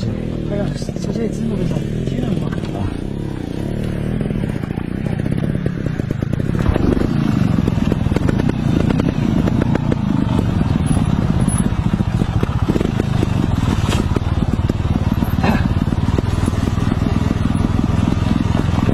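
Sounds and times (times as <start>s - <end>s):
motorcycle engine rumbling: 0.0s - 18.9s.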